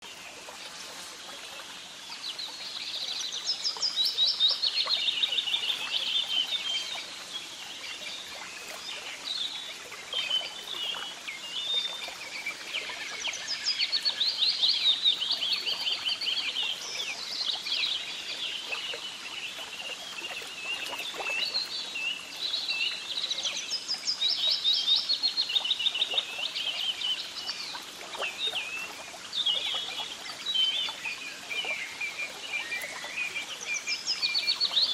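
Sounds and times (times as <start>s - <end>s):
faint outdoor hiss: 0.0s - 34.9s.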